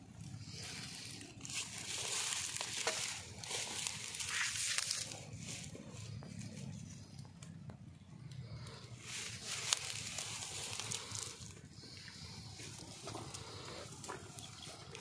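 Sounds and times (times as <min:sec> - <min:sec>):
dry grass rustling: 0:00.0 - 0:15.0.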